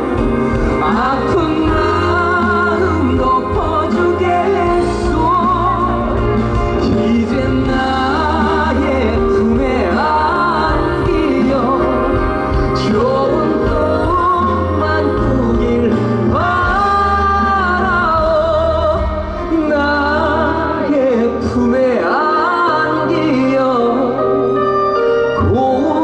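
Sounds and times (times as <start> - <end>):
live pop band playing: 0.0 - 26.0
man singing: 0.0 - 26.0.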